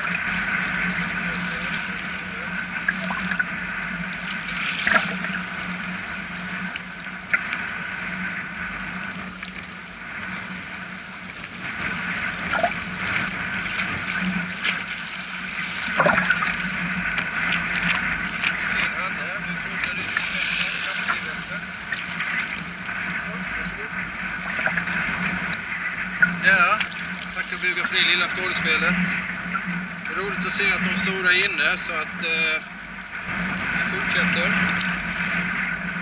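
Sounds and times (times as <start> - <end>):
small waves lapping: 0.0 - 36.0
water splashes: 0.0 - 36.0.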